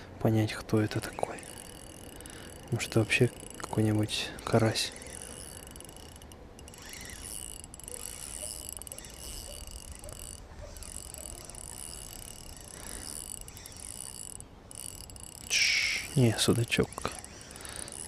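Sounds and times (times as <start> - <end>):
fishing reel whirring: 0.6 - 18.0.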